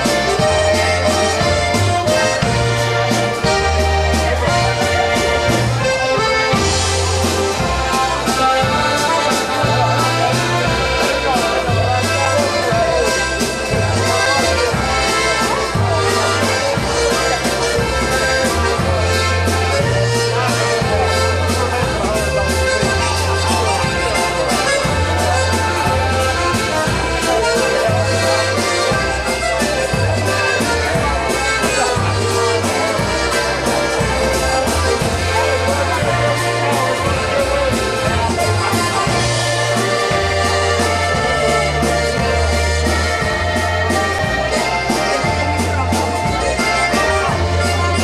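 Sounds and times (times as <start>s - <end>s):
accordion playing a waltz: 0.0s - 48.0s
bass line: 0.0s - 48.0s.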